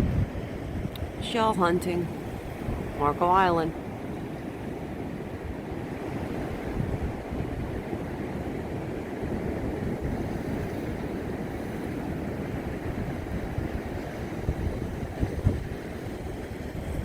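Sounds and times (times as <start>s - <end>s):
waves washing ashore: 0.0s - 17.0s
wind rumbling on microphone: 0.0s - 17.0s.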